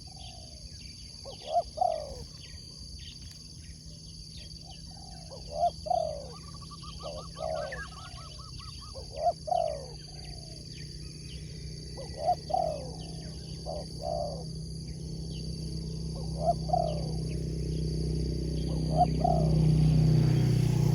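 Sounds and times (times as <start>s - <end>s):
doves cooing: 0.0s - 3.0s, 4.4s - 20.9s.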